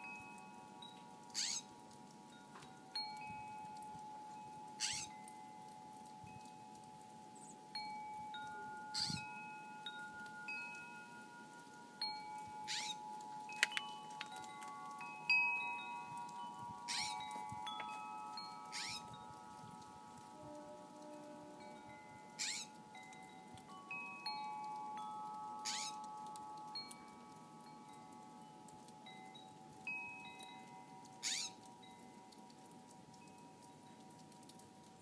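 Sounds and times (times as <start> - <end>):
wind chimes ringing: 0.0 - 35.0.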